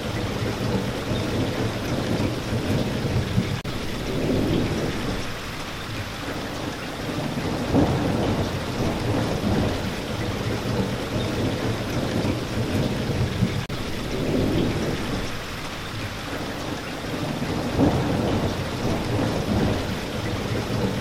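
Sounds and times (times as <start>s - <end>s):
heavy rain: 0.0s - 21.0s
low rumbles of thunder: 0.0s - 21.0s.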